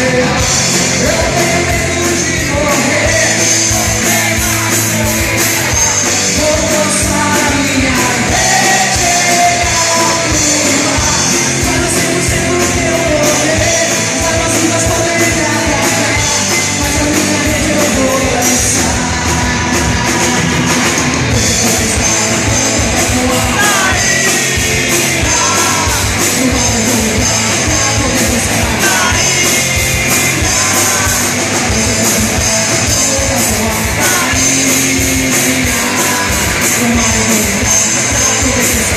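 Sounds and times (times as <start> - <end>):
hard rock band playing live: 0.0 - 38.9
person singing: 0.0 - 38.9.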